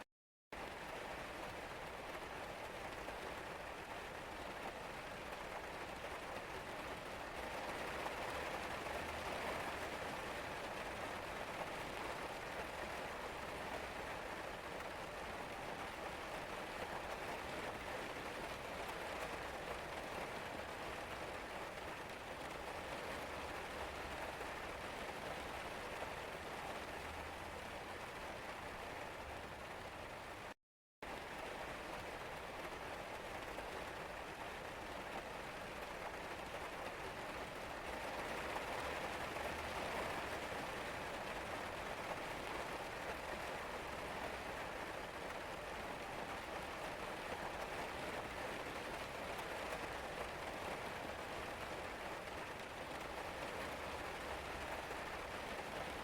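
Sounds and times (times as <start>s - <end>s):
steady rain falling: 0.6s - 56.0s.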